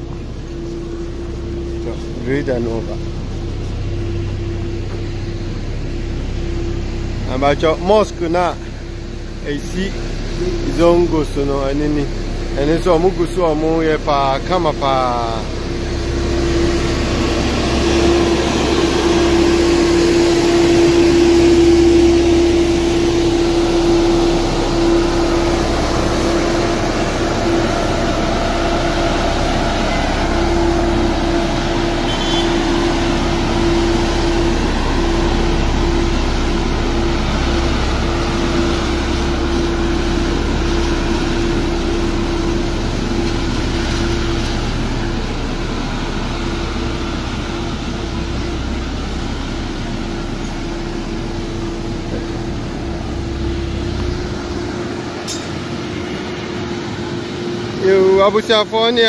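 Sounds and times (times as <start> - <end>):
road roller diesel engine running: 0.0 - 59.0.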